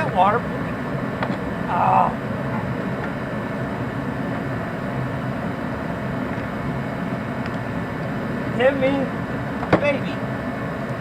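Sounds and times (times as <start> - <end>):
low background drone: 0.0 - 11.0.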